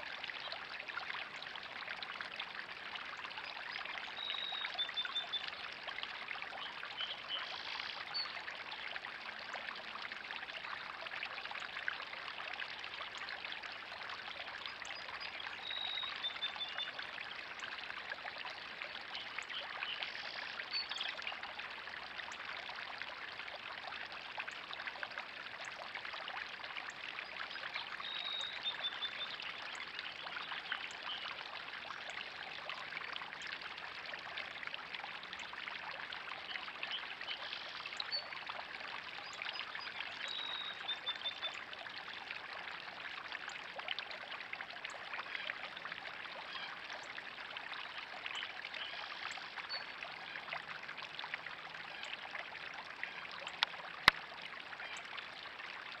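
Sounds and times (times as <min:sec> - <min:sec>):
fountain water splashing: 0:00.0 - 0:56.0.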